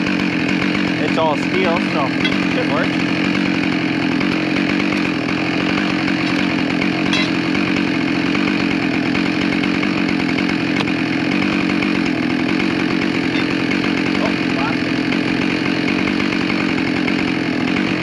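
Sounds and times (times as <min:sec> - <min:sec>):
chainsaw engine running steadily: 0:00.0 - 0:18.0.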